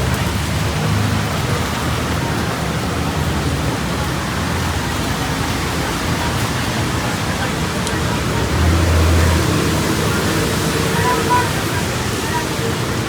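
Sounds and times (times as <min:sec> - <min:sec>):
rain hissing on street: 0:00.0 - 0:13.0
road traffic rumble: 0:00.0 - 0:13.0.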